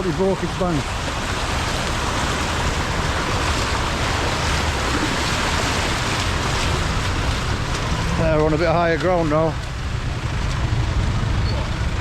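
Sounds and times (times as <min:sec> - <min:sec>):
river water roaring: 0:00.0 - 0:12.0.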